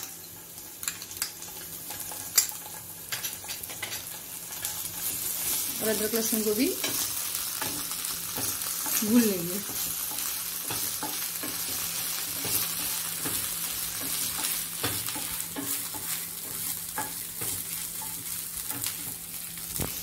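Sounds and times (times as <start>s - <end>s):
food sizzling in ghee: 0.0s - 20.0s
spatula scraping and knocking pan: 1.9s - 19.3s.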